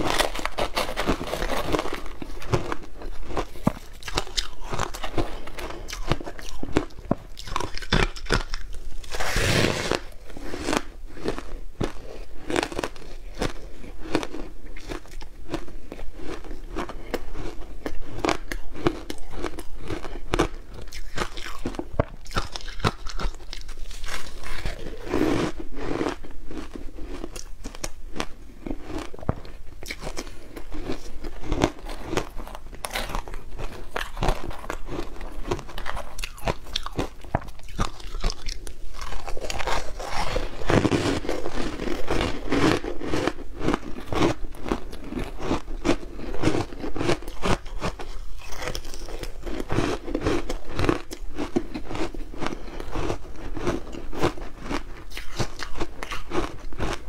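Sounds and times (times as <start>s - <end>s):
ice crunching being chewed: 0.0s - 57.0s.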